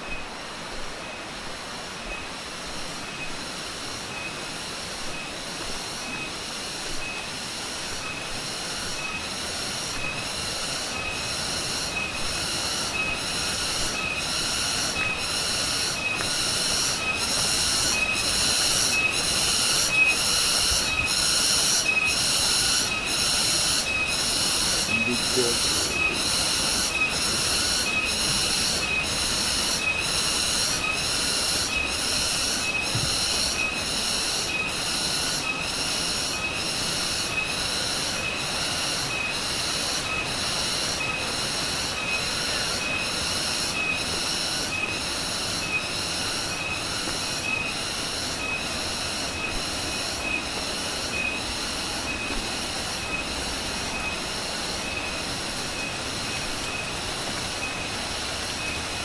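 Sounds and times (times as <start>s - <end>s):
insect high buzzing call: 0.0s - 59.0s.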